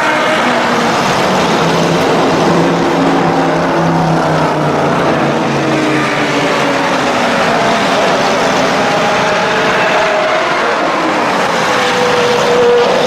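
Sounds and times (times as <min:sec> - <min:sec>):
cars driving past loudly: 0:00.0 - 0:13.0
steady rushing noise: 0:00.0 - 0:13.0.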